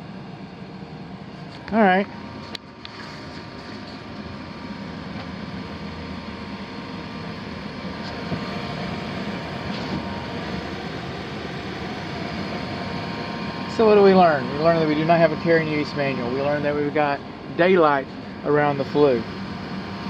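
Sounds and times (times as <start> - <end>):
air handler rushing air: 0.0 - 20.0.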